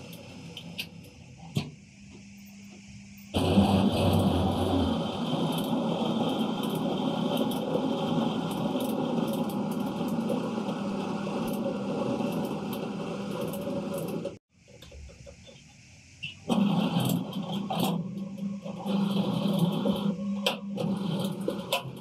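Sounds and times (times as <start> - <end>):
drilling rig engine running: 0.0 - 14.4, 16.2 - 22.0.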